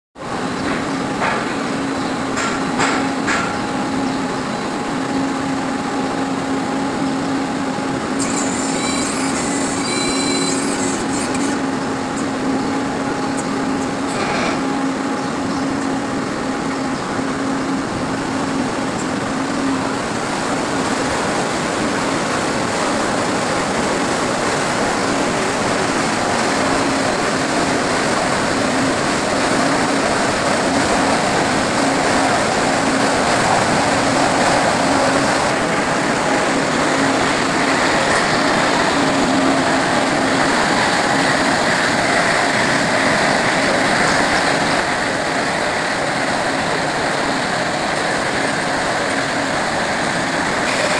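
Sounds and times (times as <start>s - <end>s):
veneer lathe machinery din: 0.2s - 20.4s, 25.0s - 50.9s.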